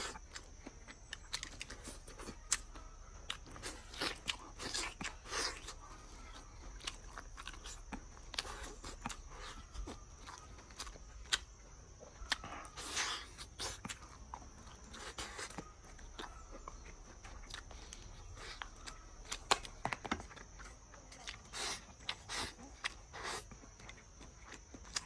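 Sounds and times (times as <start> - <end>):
wet chewing and lip-smacking: 0.0 - 25.0.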